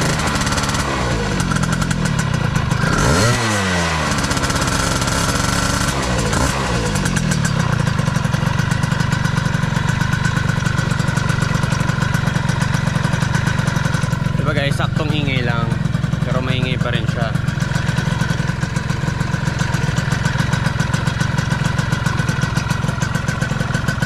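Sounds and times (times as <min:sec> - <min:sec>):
scooter engine revving and idling: 0:00.0 - 0:24.0.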